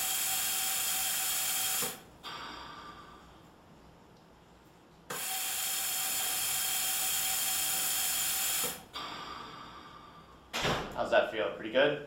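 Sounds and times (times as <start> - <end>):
ventilator hissing gas flow: 0.0 - 11.1.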